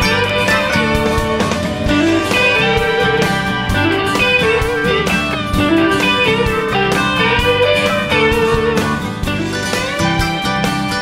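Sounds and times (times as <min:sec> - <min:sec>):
guitar melody over a beat: 0:00.0 - 0:11.0.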